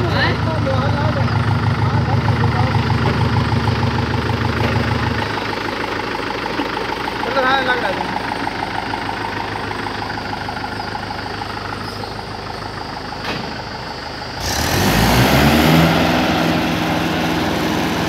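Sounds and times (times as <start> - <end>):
tractor diesel engine idling: 0.0 - 18.0
tractor engine revving: 0.0 - 18.0.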